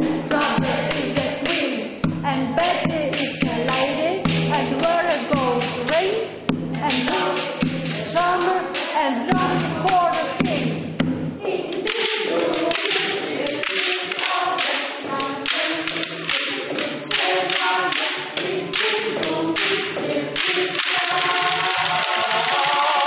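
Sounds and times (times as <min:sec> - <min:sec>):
group singing: 0:00.0 - 0:23.0
wooden sticks knocking on poles: 0:02.6 - 0:22.9.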